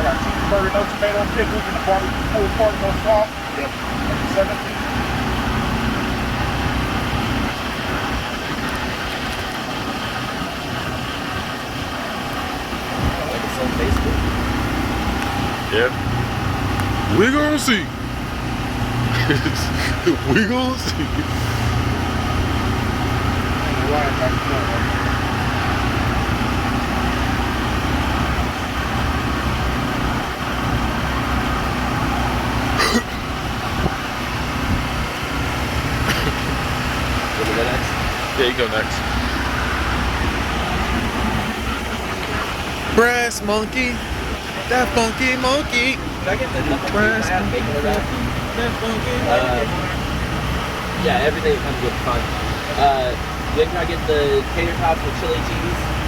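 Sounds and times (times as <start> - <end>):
outdoor background noise: 0.0 - 56.0
steady engine-like drone: 0.0 - 56.0.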